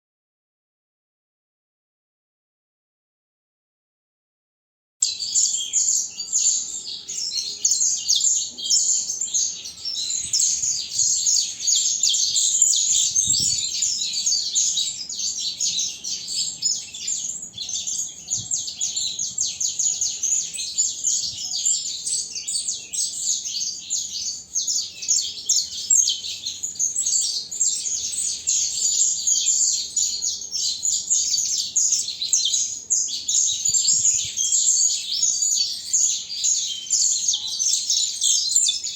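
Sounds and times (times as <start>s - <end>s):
songbird chirping rapidly: 5.0s - 38.9s.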